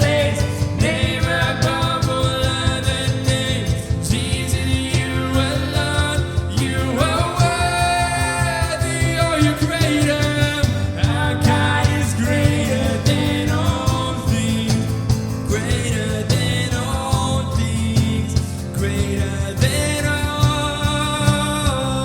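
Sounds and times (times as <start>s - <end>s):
band playing: 0.0s - 22.0s
person singing worship song: 0.0s - 22.0s.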